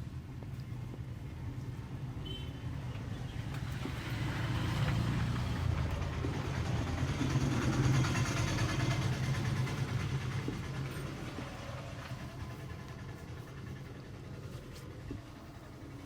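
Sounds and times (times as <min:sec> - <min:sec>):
vehicle engine running: 0:00.1 - 0:16.0.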